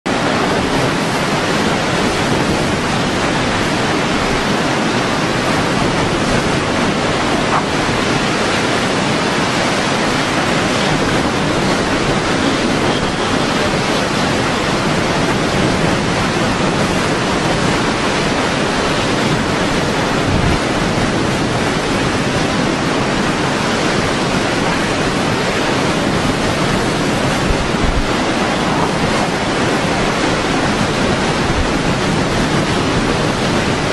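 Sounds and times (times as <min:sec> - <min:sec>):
hurricane wind: 0:00.0 - 0:33.9
driving rain: 0:00.1 - 0:33.9
wind buffeting microphone: 0:00.1 - 0:33.9.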